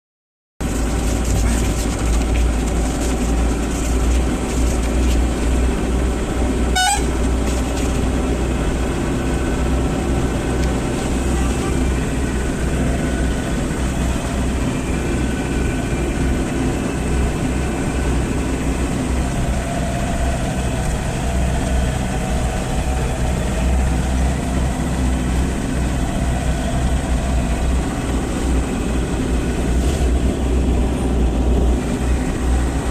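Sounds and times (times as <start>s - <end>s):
diesel truck engine rumbling: 0.6s - 32.9s.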